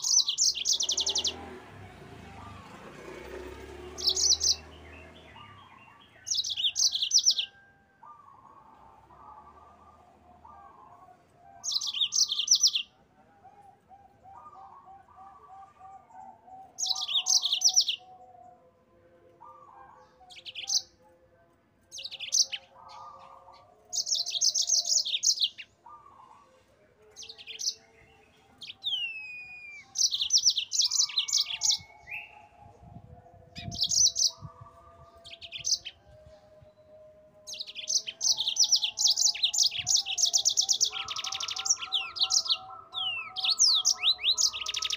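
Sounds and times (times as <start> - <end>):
canary singing fast trills: 0.0 - 13.0, 13.6 - 18.3, 19.4 - 44.9.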